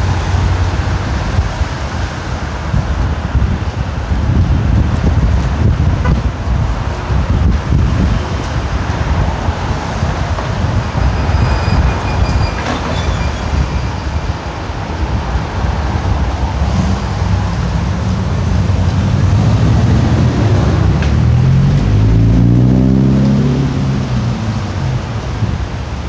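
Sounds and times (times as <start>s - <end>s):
traffic rumble: 0.0s - 26.0s
wind on microphone: 0.0s - 26.0s.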